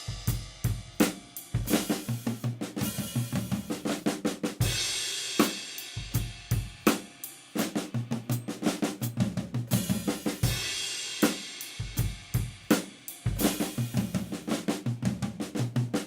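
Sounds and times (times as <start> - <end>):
drum kit played in runs: 0.0 - 16.0.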